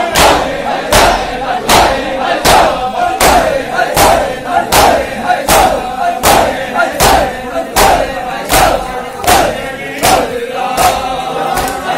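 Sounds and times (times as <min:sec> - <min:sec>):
crowd chanting: 0:00.0 - 0:11.9
men slapping chests in unison: 0:00.0 - 0:11.9.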